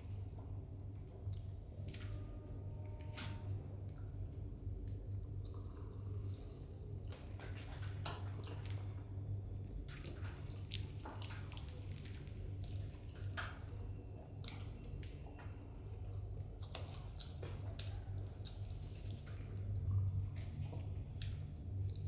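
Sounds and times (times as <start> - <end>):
steady low hum: 0.0 - 22.0
wet squishing of chicken eaten: 0.2 - 22.0.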